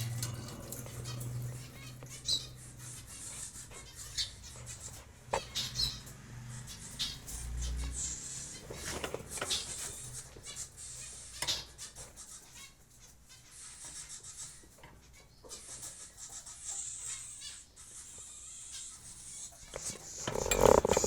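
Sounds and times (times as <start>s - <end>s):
cockatiels chirping: 0.0s - 21.0s.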